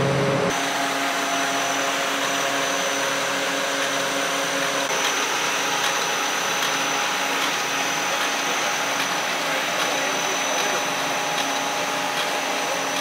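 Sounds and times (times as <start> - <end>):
machine hum and rush: 0.0 - 13.0.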